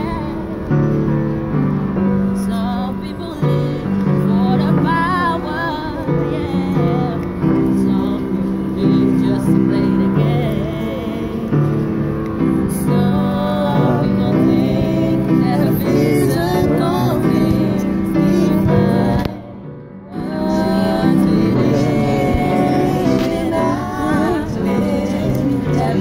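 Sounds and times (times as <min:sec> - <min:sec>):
person singing: 0:00.0 - 0:00.8, 0:02.4 - 0:26.0
upright piano chords: 0:00.0 - 0:26.0.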